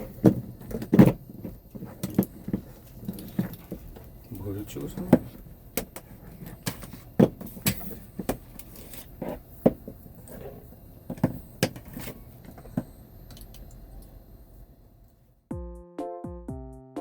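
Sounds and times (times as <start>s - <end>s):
low background noise: 0.0s - 15.4s.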